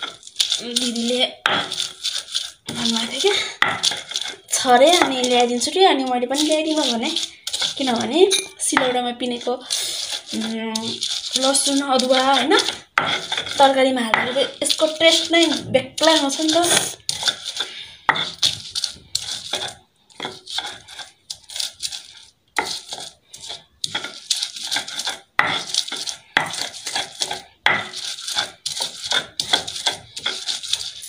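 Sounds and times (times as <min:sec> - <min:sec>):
stone pestle knocking and scraping: 0:00.0 - 0:31.0.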